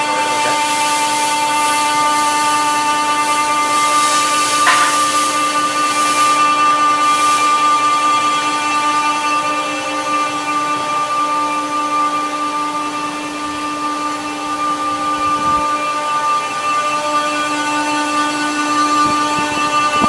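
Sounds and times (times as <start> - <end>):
lathe machine hum and whine: 0.0 - 20.0.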